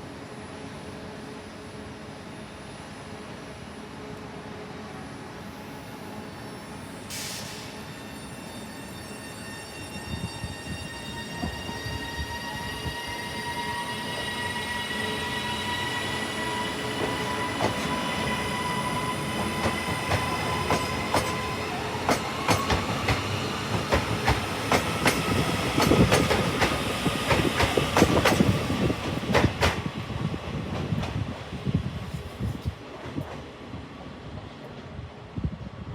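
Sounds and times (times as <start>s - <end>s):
train whine: 0.0s - 35.9s.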